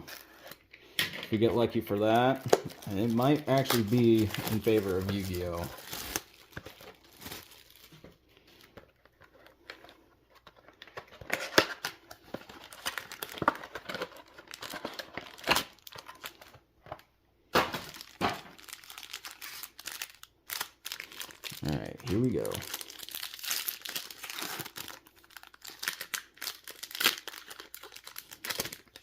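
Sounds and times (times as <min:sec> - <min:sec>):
foil pack crinkling and tearing: 0:01.9 - 0:09.9, 0:10.7 - 0:16.6, 0:17.7 - 0:29.0.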